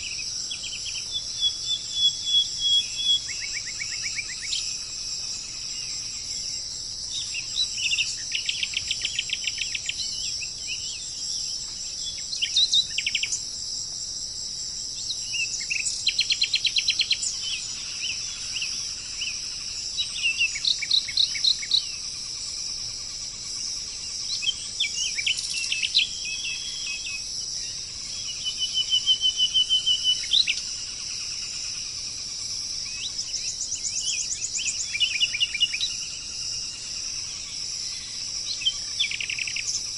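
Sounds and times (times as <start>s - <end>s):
birds trilling and chirping: 0.0s - 13.6s, 14.8s - 39.9s
high-pitched insect chorus: 0.0s - 39.9s.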